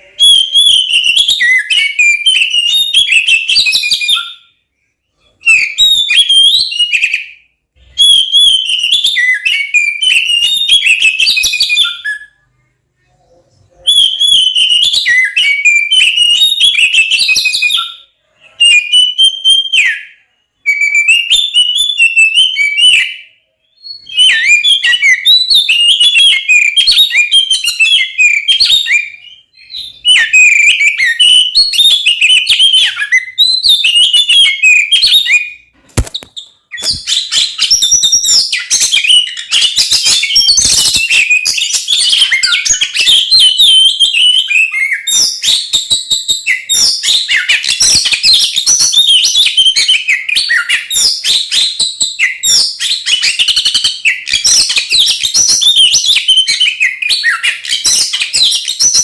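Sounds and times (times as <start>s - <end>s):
bird singing whistled phrases: 0.0s - 7.4s, 8.0s - 12.5s, 13.3s - 59.0s.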